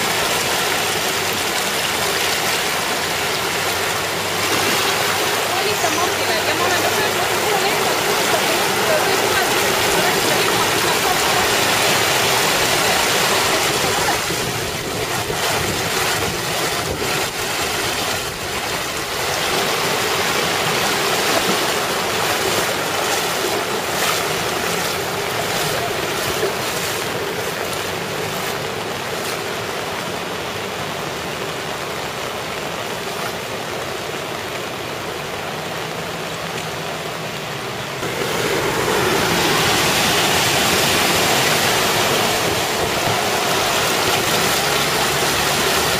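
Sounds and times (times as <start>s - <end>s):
cars splashing through floodwater: 0.0s - 45.9s
heavy rain rushing: 0.0s - 45.9s.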